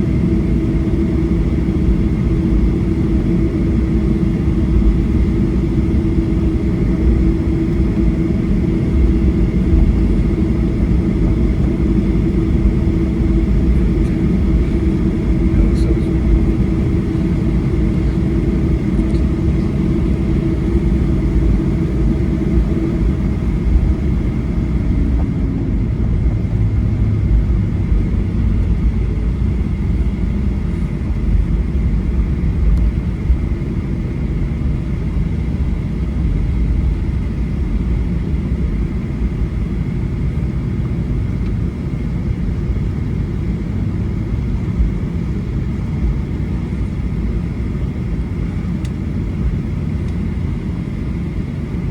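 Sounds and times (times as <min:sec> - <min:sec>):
airplane cabin low rumble: 0:00.0 - 0:51.9.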